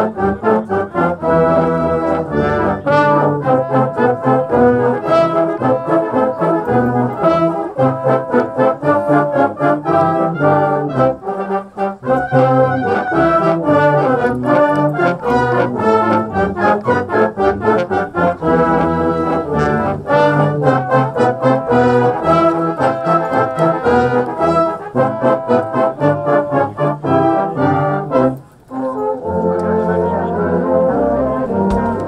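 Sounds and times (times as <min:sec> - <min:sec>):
brass band playing: 0:00.0 - 0:32.0.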